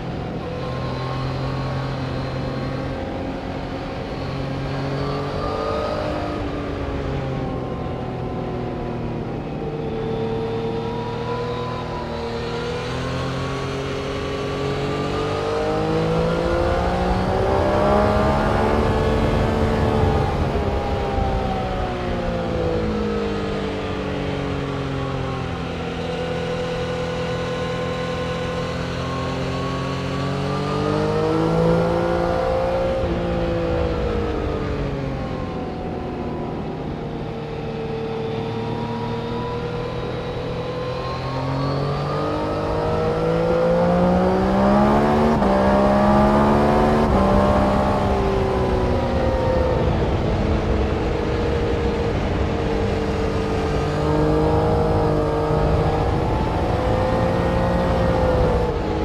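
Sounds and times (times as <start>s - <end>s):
race car engines accelerating: 0.0s - 59.0s.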